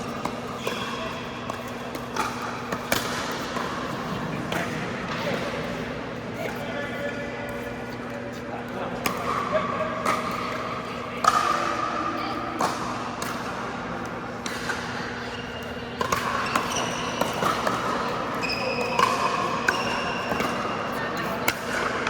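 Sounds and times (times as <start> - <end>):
ball bouncing on court: 0.0 - 5.6, 8.3 - 22.0.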